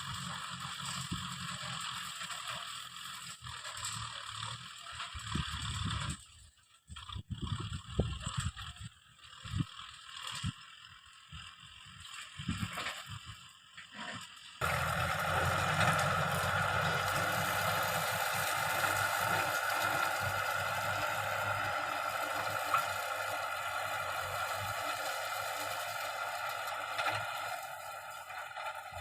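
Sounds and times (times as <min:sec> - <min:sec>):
tractor diesel engine running: 0:00.0 - 0:13.8, 0:14.6 - 0:29.0.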